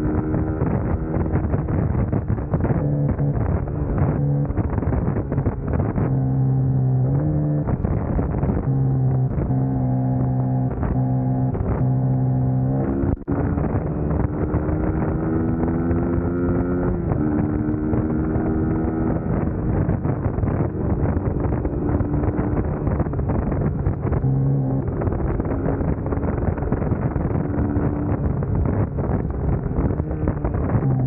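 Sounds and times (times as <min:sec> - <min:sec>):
motorcycle engine accelerating: 0:00.0 - 0:31.0
wind noise on microphone: 0:00.0 - 0:31.0.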